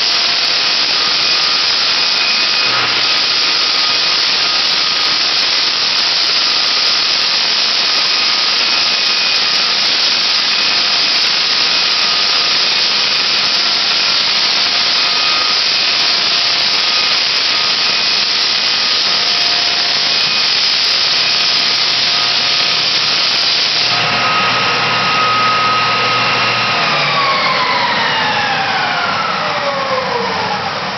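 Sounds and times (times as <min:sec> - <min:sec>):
floor sander hissing: 0:00.0 - 0:30.9
motor whine winding down: 0:00.0 - 0:30.9.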